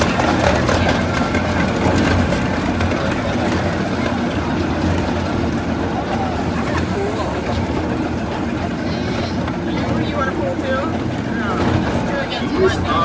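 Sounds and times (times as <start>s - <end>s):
ride-on train rumbling on track: 0.0s - 13.0s.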